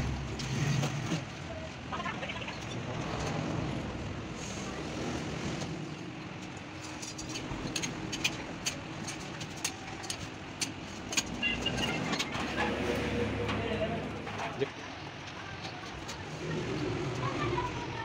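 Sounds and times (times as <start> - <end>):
steady background rumble: 0.0 - 18.0.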